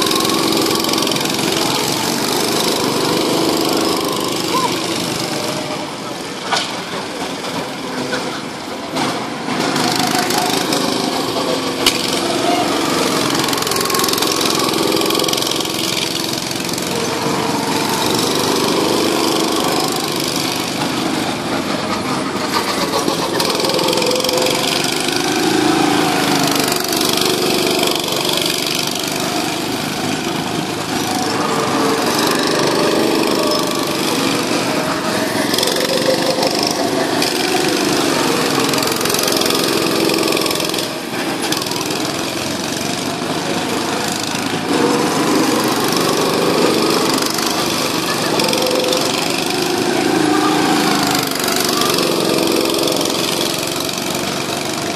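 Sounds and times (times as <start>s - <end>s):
go-kart engines running: 0.0s - 54.9s.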